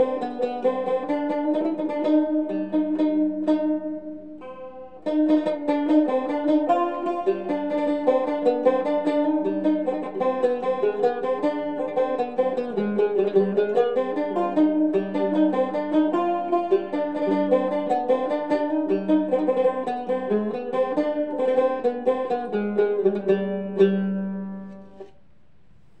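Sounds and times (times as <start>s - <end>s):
plucked lute melody: 0.0s - 25.2s.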